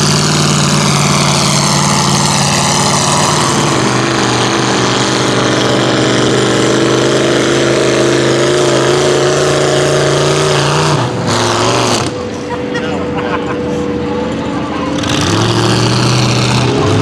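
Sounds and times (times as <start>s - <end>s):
truck engine running hard: 0.0s - 17.0s.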